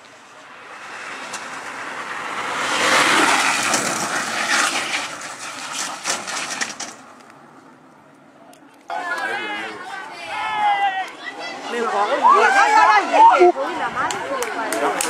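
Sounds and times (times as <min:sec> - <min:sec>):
kart wheels rumbling on asphalt: 0:00.0 - 0:15.0.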